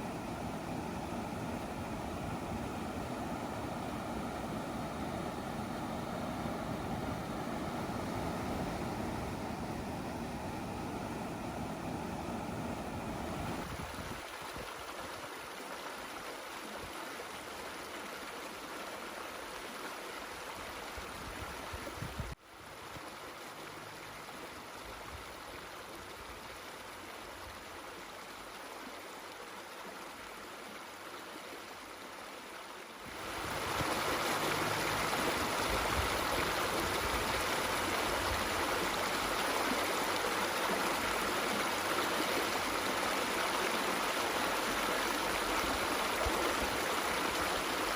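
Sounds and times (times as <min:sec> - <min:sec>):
rushing water: 0:00.0 - 0:47.9.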